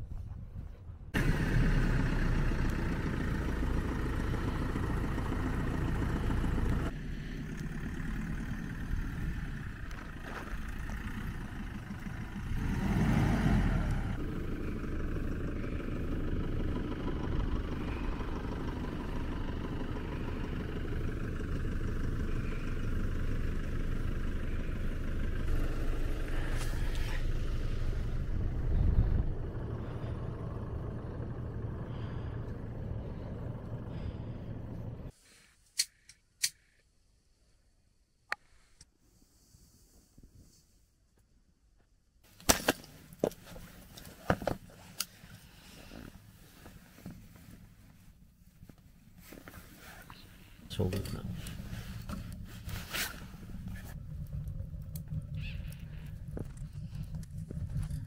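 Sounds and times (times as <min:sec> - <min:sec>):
car engine running: 0:01.2 - 0:35.1, 0:43.0 - 0:58.0.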